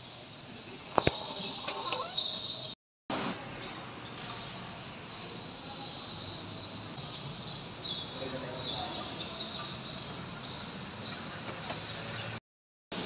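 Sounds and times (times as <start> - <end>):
small birds chirping: 0.0 - 2.8, 3.6 - 12.4
steady background noise: 0.0 - 13.0.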